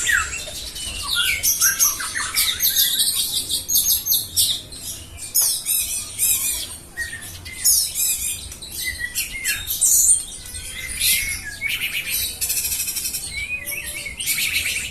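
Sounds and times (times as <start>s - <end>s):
songbird singing: 0.0s - 14.9s.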